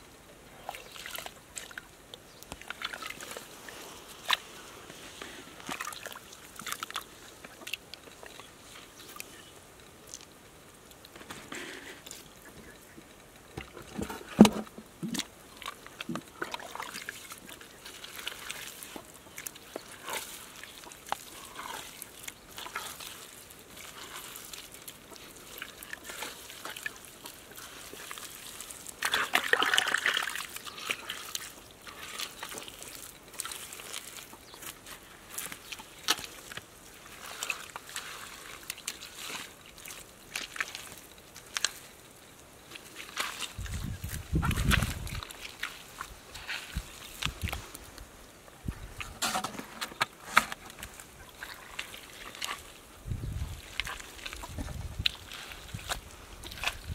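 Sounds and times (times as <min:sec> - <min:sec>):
hands squelching in wet mud: 0:00.5 - 0:13.0, 0:13.9 - 0:49.2, 0:49.9 - 0:56.9.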